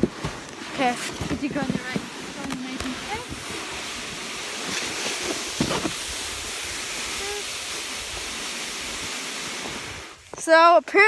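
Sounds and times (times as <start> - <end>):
sled sliding over snow: 0.0 - 11.0.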